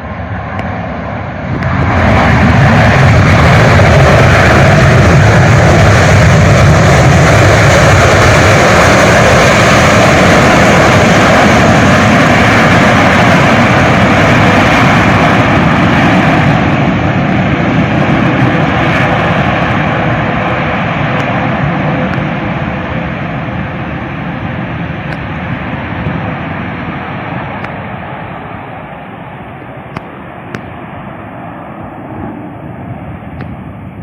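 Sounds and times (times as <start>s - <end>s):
airliner engines running: 0.0s - 34.0s.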